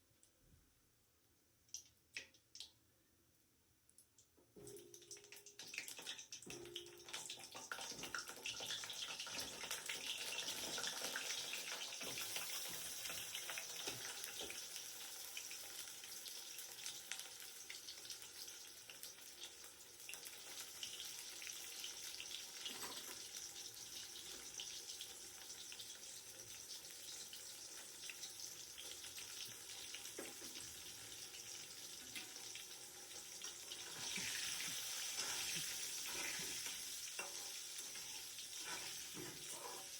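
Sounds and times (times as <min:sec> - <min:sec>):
food sizzling in hot oil: 0:04.7 - 0:39.9.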